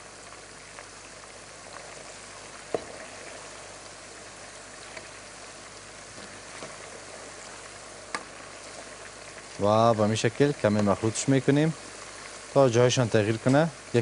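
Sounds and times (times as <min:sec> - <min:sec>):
chicken deep-frying sizzle: 0:00.0 - 0:14.0.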